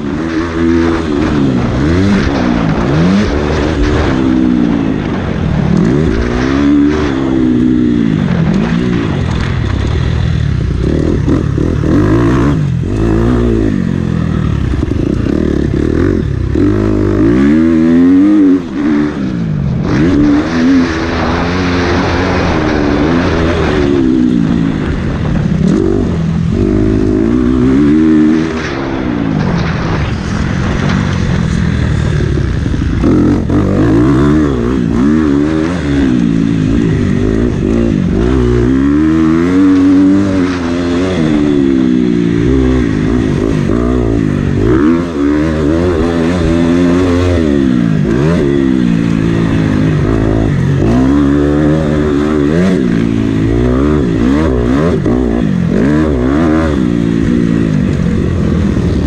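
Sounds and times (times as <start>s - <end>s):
loud rushing noise: 0.0s - 59.0s
motocross bike engine revving: 0.0s - 59.0s.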